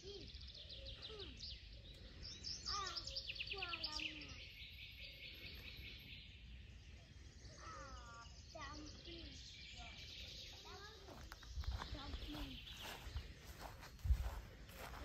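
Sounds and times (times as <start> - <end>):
songbirds trilling: 0.0 - 15.0.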